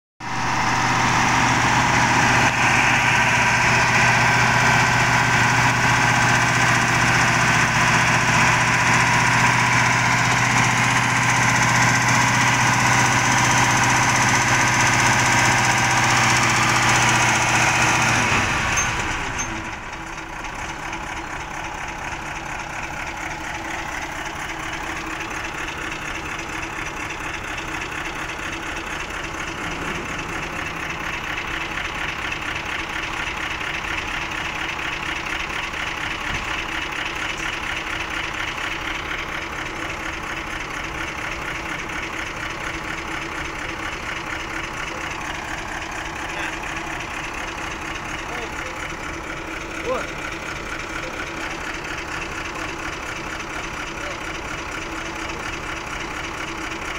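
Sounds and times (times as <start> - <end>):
heavy truck engine idling: 0.2 - 56.9.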